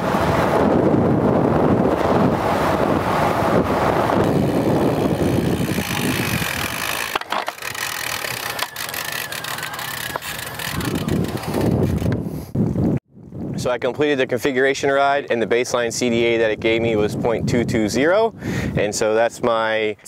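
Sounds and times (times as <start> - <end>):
wind buffeting microphone: 0.0 - 19.8
open-air road ambience: 0.0 - 20.0.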